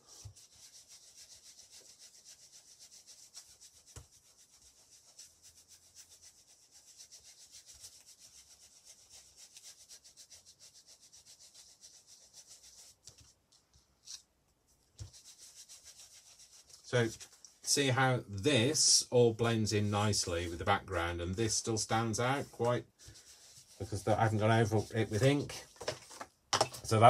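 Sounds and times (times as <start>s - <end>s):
foam pad brushing over paper: 0.0s - 13.5s, 14.7s - 17.8s, 19.5s - 25.7s.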